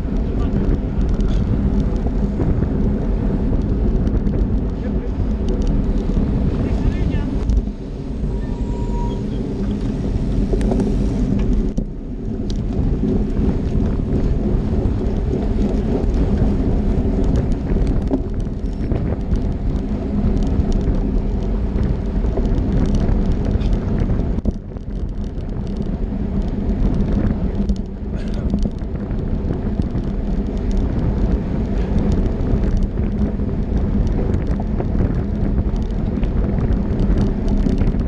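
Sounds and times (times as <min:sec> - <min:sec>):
tyre noise on asphalt: 0:00.0 - 0:38.0
wind buffeting microphone: 0:00.0 - 0:38.0.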